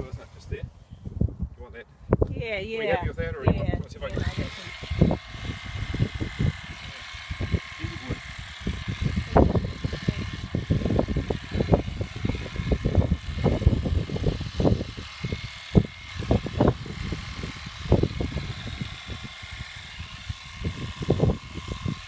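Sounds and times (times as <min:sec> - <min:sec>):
wind on microphone: 0:00.0 - 0:22.0
electric clipper whining: 0:03.5 - 0:22.0.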